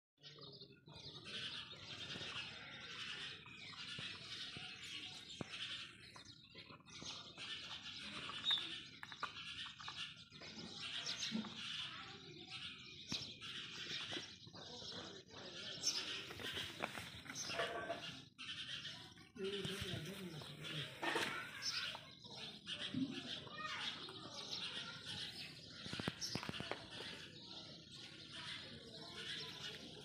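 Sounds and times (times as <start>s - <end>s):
small birds chirping and chattering: 0.2s - 30.0s.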